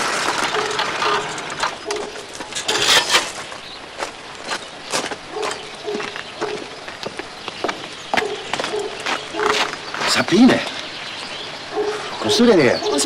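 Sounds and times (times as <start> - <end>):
moped rolling on gravel: 0.0 - 10.8
footsteps on gravel: 0.0 - 11.3.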